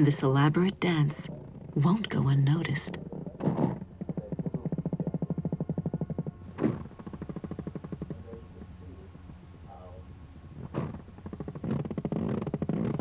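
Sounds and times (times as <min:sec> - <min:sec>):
buzzing vibration pulses: 0:00.0 - 0:13.0.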